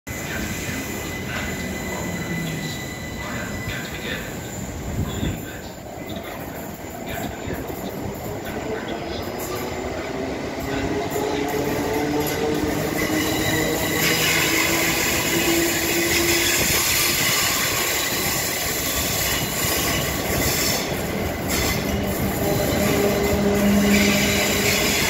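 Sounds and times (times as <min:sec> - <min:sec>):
train wheels rumbling on rail: 0:00.1 - 0:25.0.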